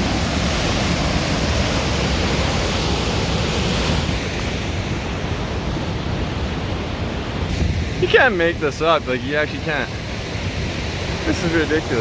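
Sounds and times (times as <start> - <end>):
rushing whitewater: 0.0 - 12.0.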